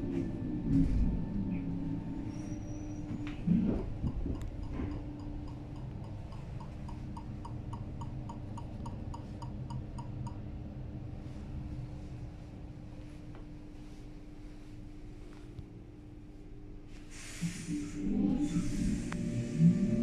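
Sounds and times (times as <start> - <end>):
train hum: 0.0 - 20.0.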